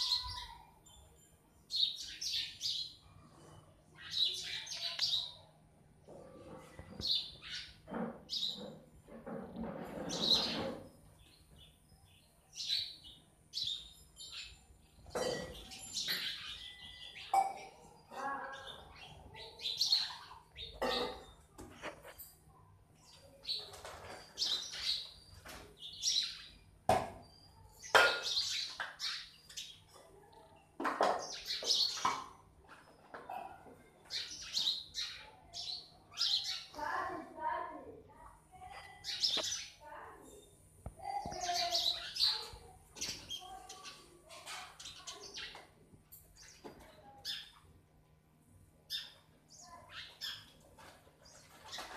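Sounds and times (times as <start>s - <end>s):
sparrows chirping: 0.0s - 5.5s, 6.1s - 22.3s, 22.9s - 37.6s, 38.2s - 47.8s, 48.7s - 51.9s.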